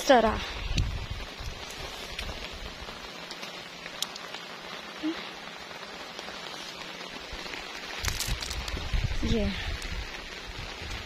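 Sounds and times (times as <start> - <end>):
rain falling on mud and puddles: 0.0 - 11.0.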